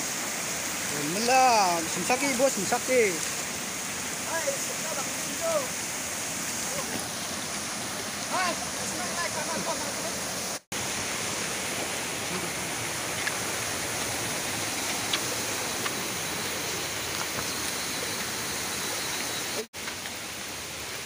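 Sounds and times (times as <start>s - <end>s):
waterfall rushing into stream: 0.0s - 21.0s.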